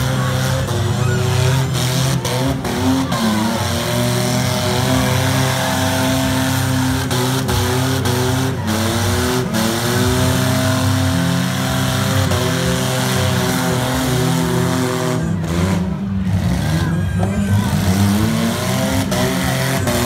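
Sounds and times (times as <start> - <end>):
vehicle engines revving hard: 0.0 - 20.0.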